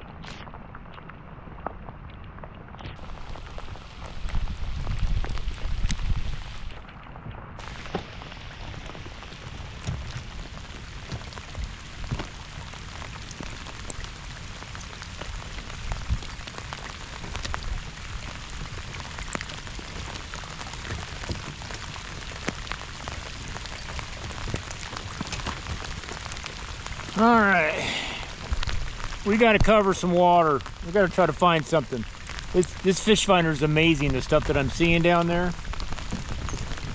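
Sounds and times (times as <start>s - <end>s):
rain falling: 0.0s - 36.9s
raindrops ticking: 0.0s - 36.9s.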